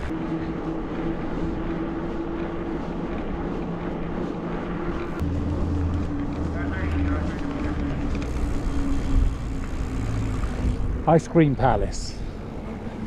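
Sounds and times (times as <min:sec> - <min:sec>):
bicycle rolling on paved road: 0:00.0 - 0:13.0.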